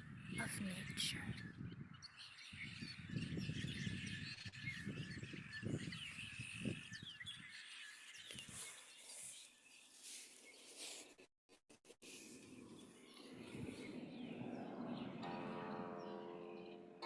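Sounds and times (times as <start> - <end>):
birds chirping: 0.0 - 10.8, 12.2 - 17.0.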